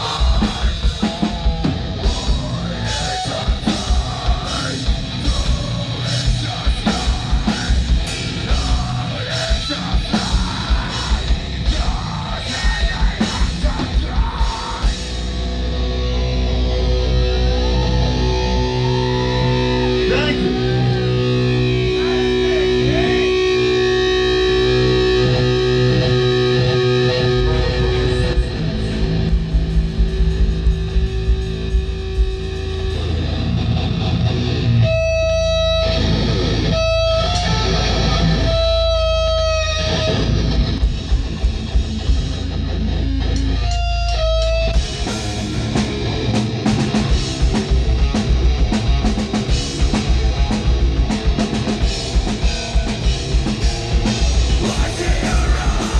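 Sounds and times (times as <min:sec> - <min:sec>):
bass guitar: 0:00.0 - 0:55.9
drums: 0:00.0 - 0:55.9
electric guitar: 0:00.0 - 0:55.9.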